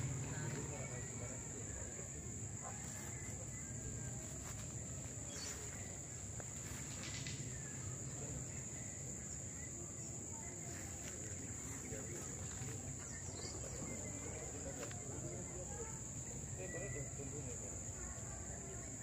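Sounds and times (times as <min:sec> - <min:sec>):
insects droning: 0:00.0 - 0:19.0
low outdoor background hum: 0:00.0 - 0:19.0.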